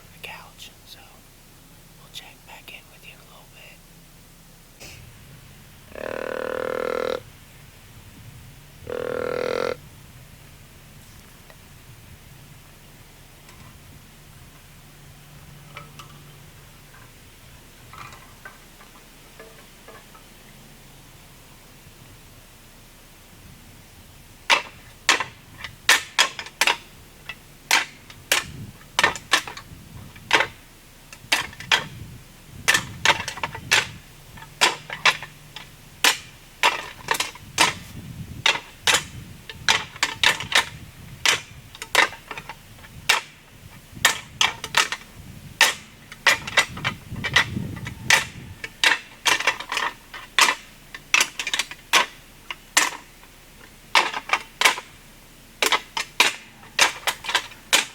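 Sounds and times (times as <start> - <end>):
faint low hum: 0.0 - 57.9.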